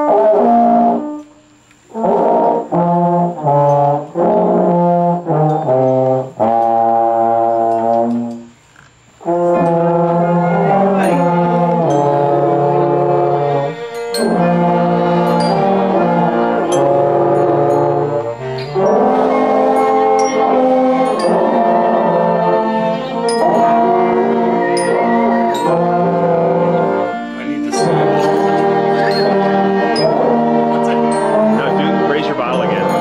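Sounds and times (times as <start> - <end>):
brass ensemble playing chords: 0.0 - 1.3, 1.9 - 8.6, 9.2 - 33.0.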